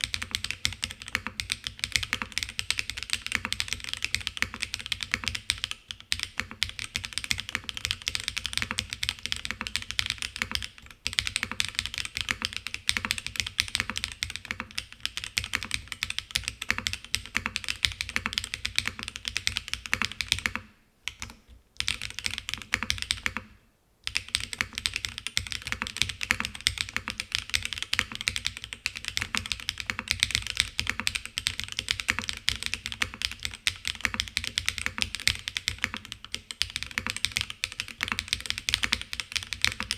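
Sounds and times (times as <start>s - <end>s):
fast mechanical keyboard typing: 0.0s - 23.5s, 24.1s - 39.9s.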